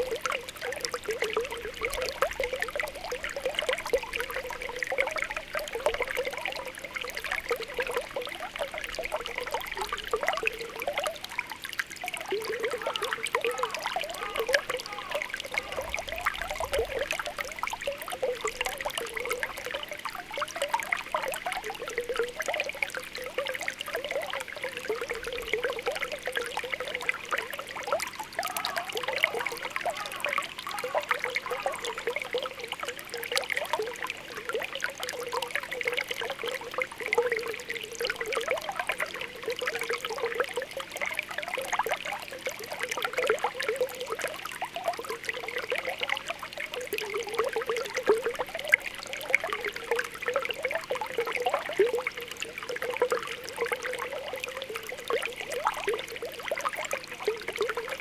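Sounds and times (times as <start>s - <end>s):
spring water bubbling: 0.0s - 58.0s
water trickling: 0.0s - 58.0s.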